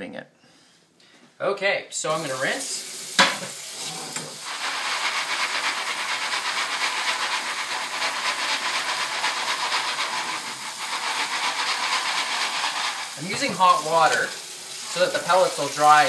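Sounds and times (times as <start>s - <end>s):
faucet water splashing: 2.1s - 16.0s.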